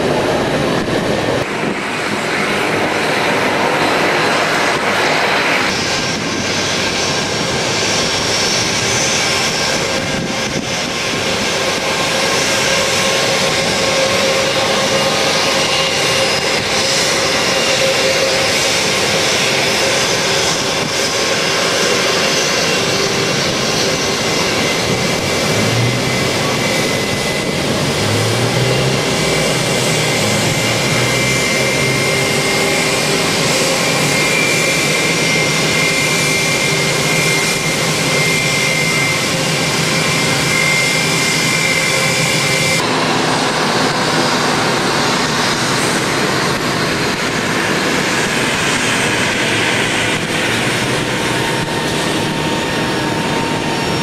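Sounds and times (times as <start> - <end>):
jet engines whining: 0.0 - 54.0
turboprop engines and propellers: 0.0 - 54.0.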